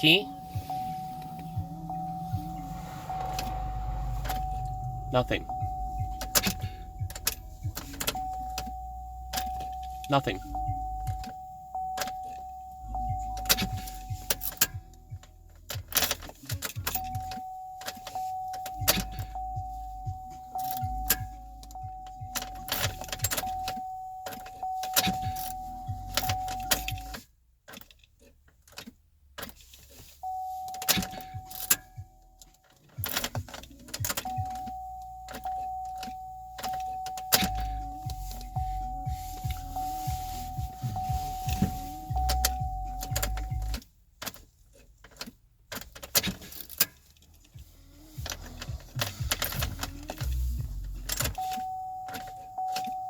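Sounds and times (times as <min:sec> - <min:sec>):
car warning chime: 0:00.0 - 0:27.9, 0:28.8 - 0:53.0
keys jangling and clicking: 0:05.5 - 0:29.7, 0:30.7 - 0:53.0.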